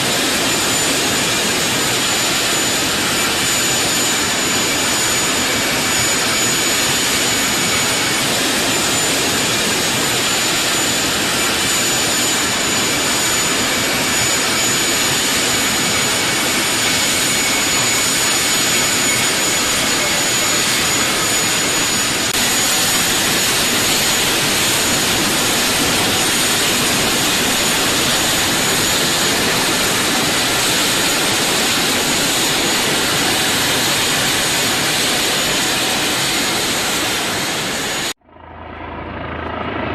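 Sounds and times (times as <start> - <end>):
helicopter turbine engines running: 0.0 - 39.9.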